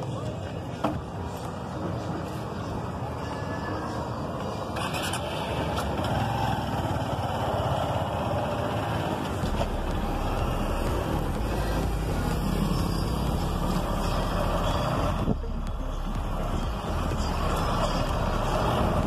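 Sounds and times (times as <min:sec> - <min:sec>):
vehicle on cobblestones: 0:00.0 - 0:19.0.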